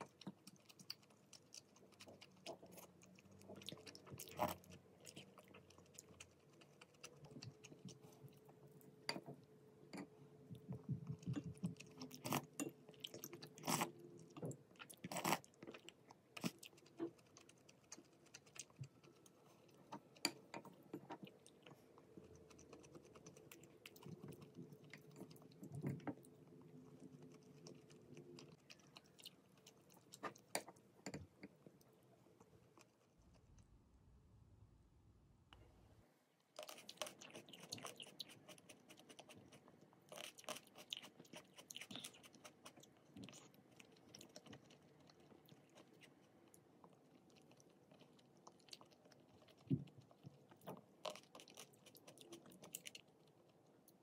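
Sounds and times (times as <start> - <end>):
person chewing food: 0.0 - 33.8, 36.4 - 54.0.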